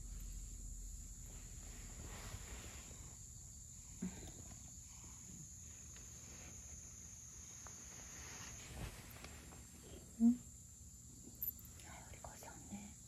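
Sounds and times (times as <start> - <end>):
faint high-pitched hiss: 0.0 - 13.0.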